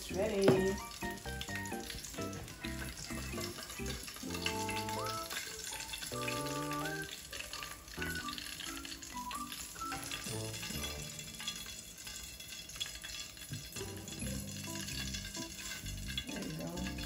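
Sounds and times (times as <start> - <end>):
background music: 0.0 - 11.8, 13.6 - 17.0
chicken sizzling in frying oil: 0.0 - 17.0.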